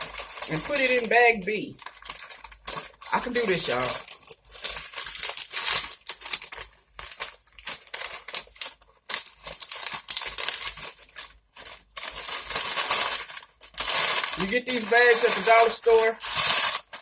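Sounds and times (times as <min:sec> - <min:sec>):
paper bags crinkling: 0:00.0 - 0:17.0.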